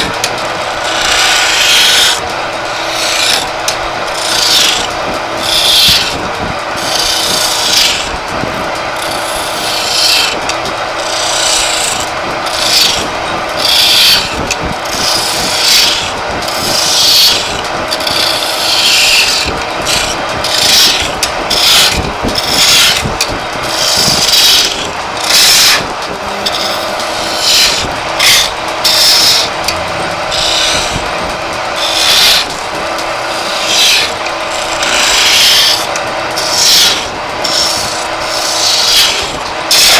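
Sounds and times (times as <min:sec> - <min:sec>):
chisel scraping spinning wood: 0:00.0 - 0:39.9
lathe motor humming: 0:00.0 - 0:39.9.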